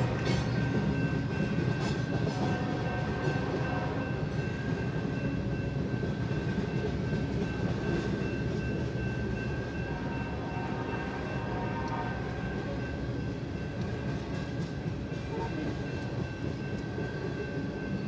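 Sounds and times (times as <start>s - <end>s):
steel wheels rumbling on rail: 0.0s - 18.0s.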